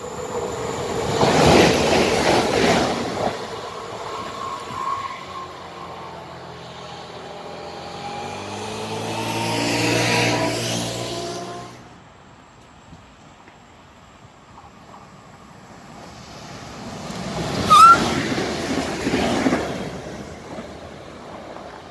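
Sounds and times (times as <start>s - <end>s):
train wheels rushing on rail: 0.0s - 8.6s, 13.0s - 21.9s.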